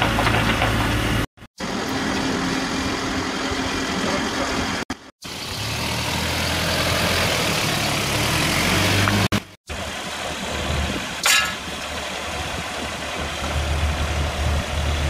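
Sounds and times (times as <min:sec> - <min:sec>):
outdoor noise: 0:00.0 - 0:15.0
vehicle engines idling: 0:00.0 - 0:15.0.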